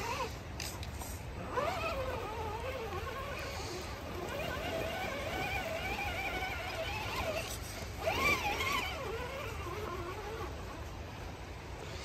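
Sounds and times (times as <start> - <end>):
toy car electric motor whining: 0.0 - 11.0.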